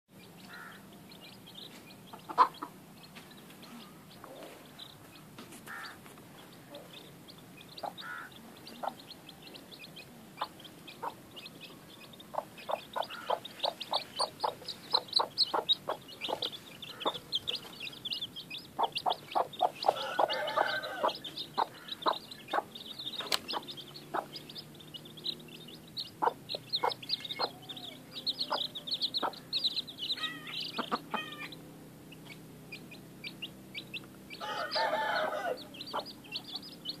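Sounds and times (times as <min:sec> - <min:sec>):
chicks peeping: 0:00.2 - 0:37.0
hen clucking: 0:00.3 - 0:37.0.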